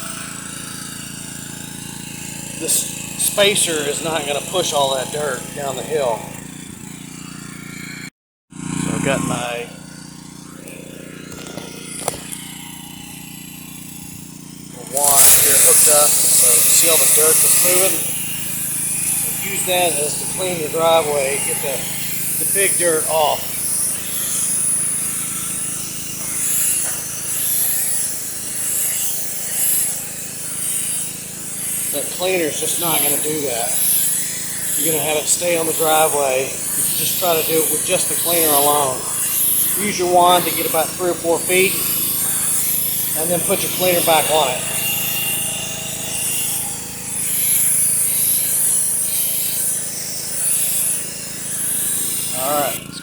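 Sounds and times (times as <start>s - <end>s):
pressure washer spray hissing: 0.0s - 6.4s, 14.8s - 53.0s
pressure washer engine humming: 0.0s - 53.0s.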